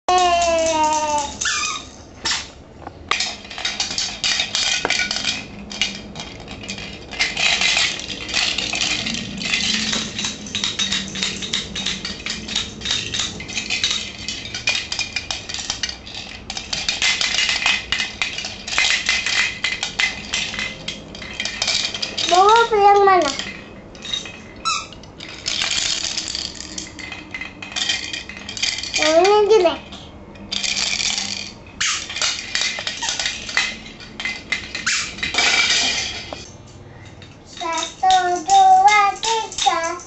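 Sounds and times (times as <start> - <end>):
small hard objects clinking together: 0.1 - 36.5.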